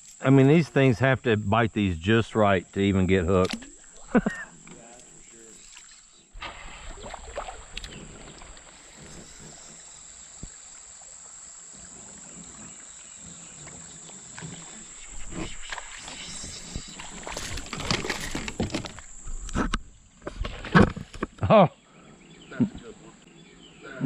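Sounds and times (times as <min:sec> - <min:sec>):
high insect drone: 0:00.0 - 0:23.8
water sounds: 0:00.3 - 0:21.3.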